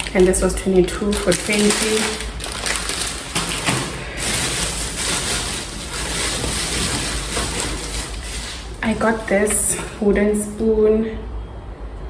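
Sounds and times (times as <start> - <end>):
plastic packaging rustling: 0.0 - 10.0.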